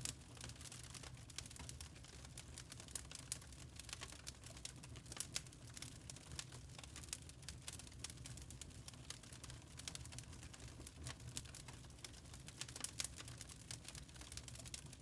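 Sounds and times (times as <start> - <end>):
burning charcoal crackling: 0.0 - 15.0.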